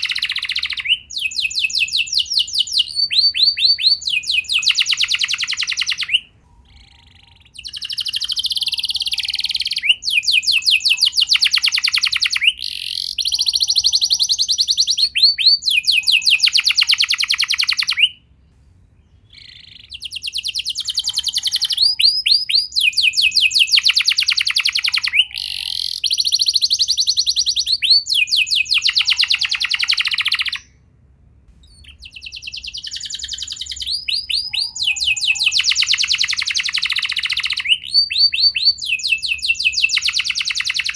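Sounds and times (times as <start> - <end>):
canary singing trills: 0.0 - 18.3, 18.9 - 30.8, 31.6 - 40.9.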